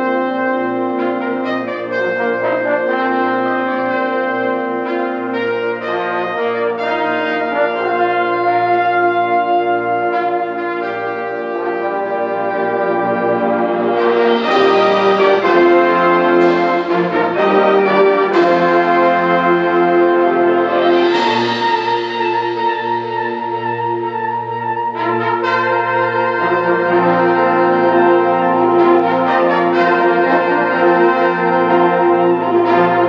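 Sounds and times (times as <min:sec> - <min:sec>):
concert band brass chords: 0:00.0 - 0:33.0.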